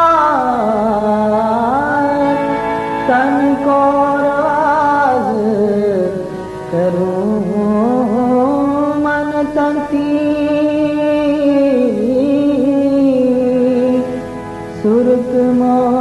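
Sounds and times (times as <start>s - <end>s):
devotional song melody: 0.0s - 16.0s.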